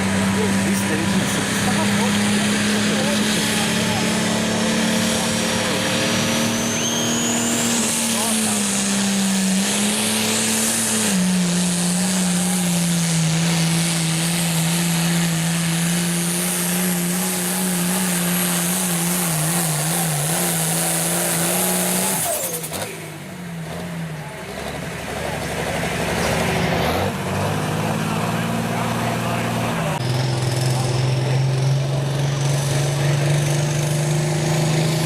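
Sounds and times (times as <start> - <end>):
diesel tractor engine running under load: 0.0 - 35.0
high turbo whine: 0.0 - 35.0.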